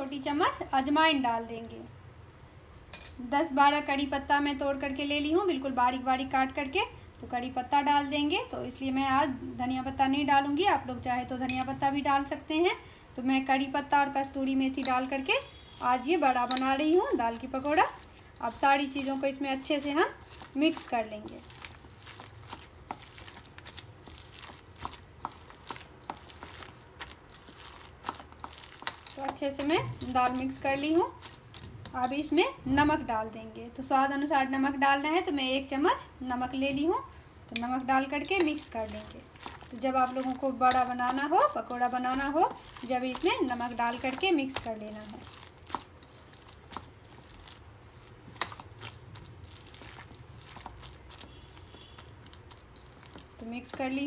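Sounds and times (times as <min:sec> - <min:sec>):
hand squishing damp batter: 0:03.7 - 0:33.9, 0:34.6 - 0:54.0.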